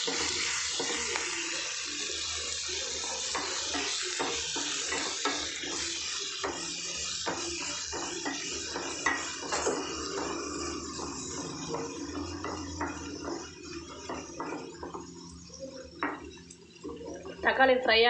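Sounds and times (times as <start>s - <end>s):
spatula scraping a pan: 0.0s - 17.4s
food sizzling frying: 0.0s - 18.0s.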